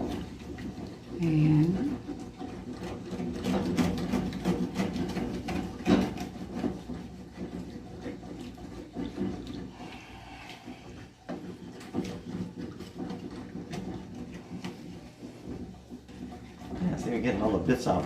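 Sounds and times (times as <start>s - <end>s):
utensil scraping frying pan: 0.0s - 18.0s.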